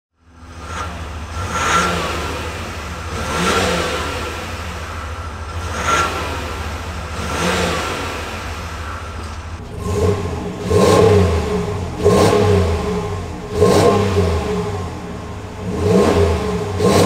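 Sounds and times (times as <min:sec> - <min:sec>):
diesel engine idling and revving: 0:00.1 - 0:17.0.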